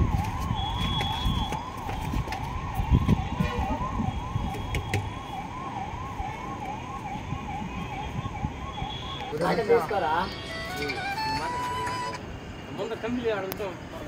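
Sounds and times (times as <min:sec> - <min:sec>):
electronic siren yelping: 0:00.0 - 0:12.2.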